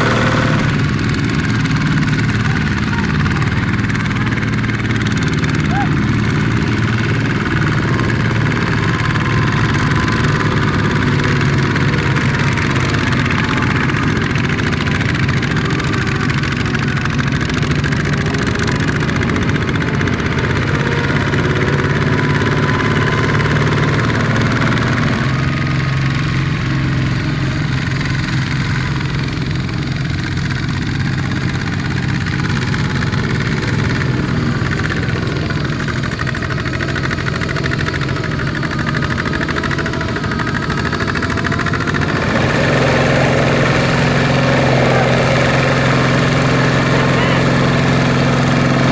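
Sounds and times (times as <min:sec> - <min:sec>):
small tractor engine running: 0:00.0 - 0:48.9.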